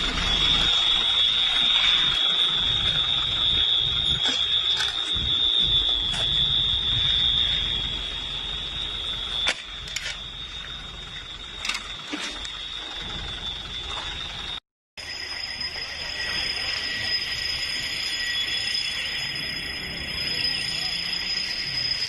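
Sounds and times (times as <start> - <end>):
high-pitched alarm tone: 0.0 - 22.0.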